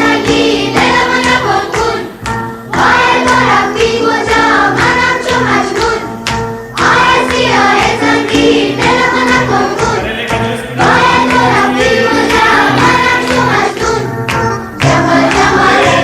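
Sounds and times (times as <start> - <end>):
song with singing voices: 0.0 - 16.0.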